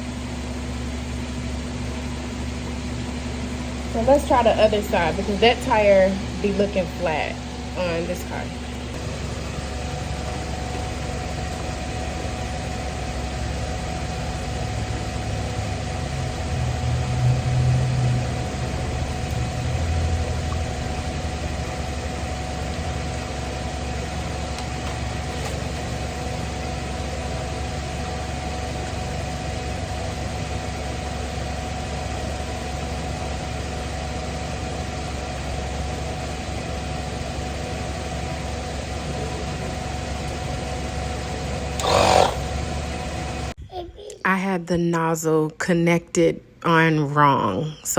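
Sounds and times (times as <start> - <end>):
air compressor humming: 0.0 - 43.6.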